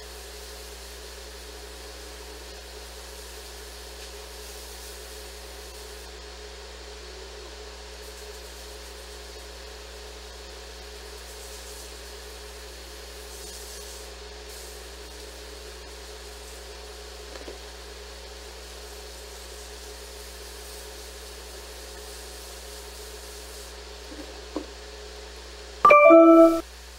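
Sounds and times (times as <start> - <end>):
steady mechanical hum with hiss: 0.0 - 25.8.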